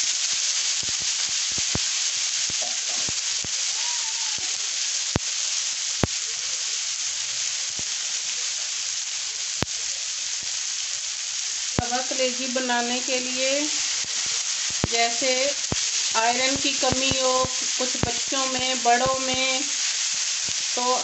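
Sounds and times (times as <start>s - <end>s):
spitting oil popping and crackling: 0.0s - 21.0s
vegetables sizzling in oil: 0.0s - 21.0s.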